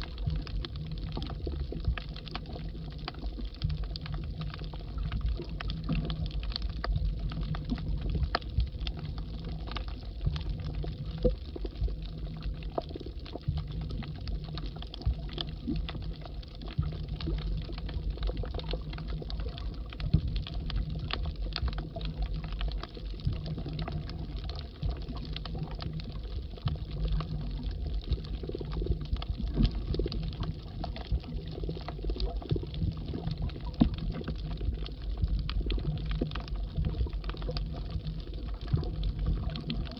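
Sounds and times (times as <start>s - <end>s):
crackle of small clicks: 0.0s - 39.9s
underwater rumble: 0.0s - 39.9s.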